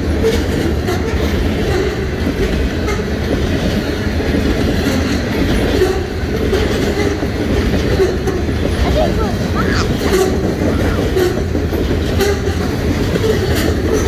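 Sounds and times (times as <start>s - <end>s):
freight train rumbling past: 0.0s - 14.0s
steel wheels clattering on rails: 0.0s - 14.0s.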